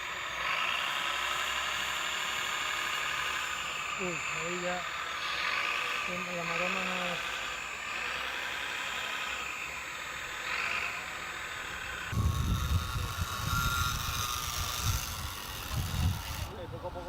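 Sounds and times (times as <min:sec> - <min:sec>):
toy truck motor whine: 0:00.0 - 0:17.0.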